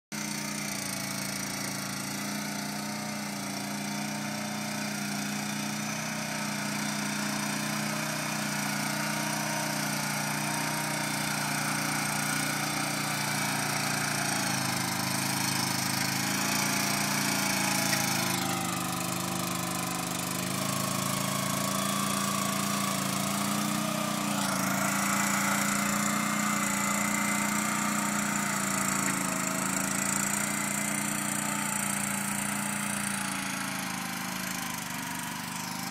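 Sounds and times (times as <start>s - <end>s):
small engine running: 0.1s - 35.9s.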